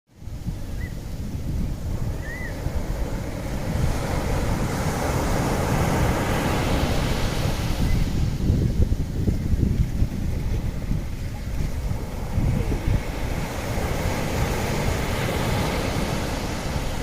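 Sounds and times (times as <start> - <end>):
sea waves washing in: 0.1 - 17.0
wind rumble on microphone: 0.1 - 17.0.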